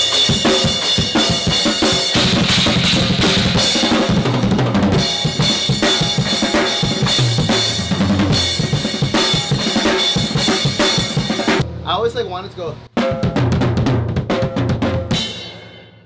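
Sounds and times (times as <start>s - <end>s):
bass drum: 0.0s - 12.1s, 13.0s - 15.4s.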